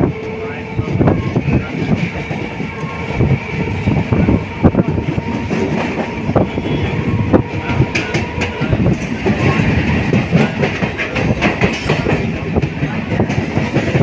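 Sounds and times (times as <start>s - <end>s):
train running rumble: 0.0s - 14.0s
train wheels clattering: 1.6s - 14.0s.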